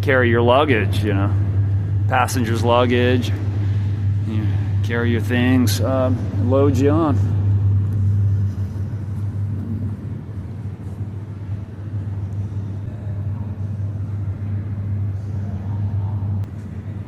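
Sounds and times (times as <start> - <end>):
low-pitched hum: 0.0 - 17.0.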